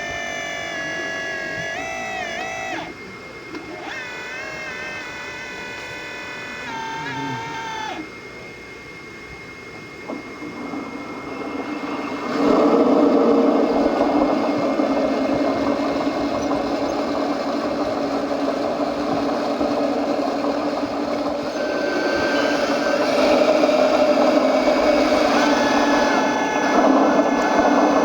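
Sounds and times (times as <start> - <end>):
small motor whining: 0.0 - 28.0.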